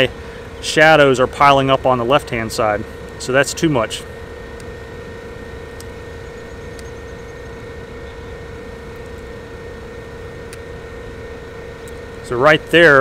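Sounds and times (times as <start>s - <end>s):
drone motors humming: 0.0s - 13.0s.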